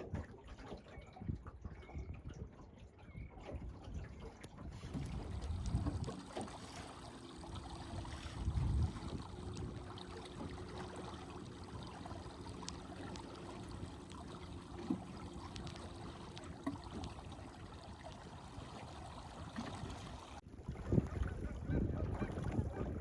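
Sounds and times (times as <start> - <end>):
water gurgling along hull: 0.0 - 23.0.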